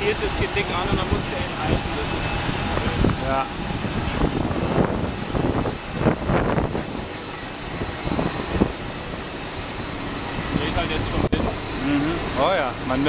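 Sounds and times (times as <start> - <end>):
turbine whine: 0.0 - 13.0.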